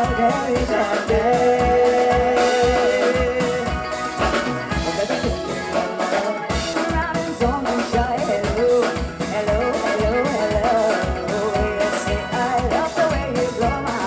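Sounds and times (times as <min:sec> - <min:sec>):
drum kit beat: 0:00.0 - 0:14.0
electric guitar: 0:00.0 - 0:14.0
keyboard: 0:00.0 - 0:14.0.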